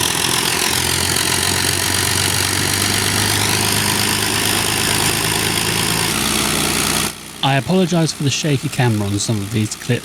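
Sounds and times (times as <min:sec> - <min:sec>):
propeller aircraft engines running: 0:00.0 - 0:10.0.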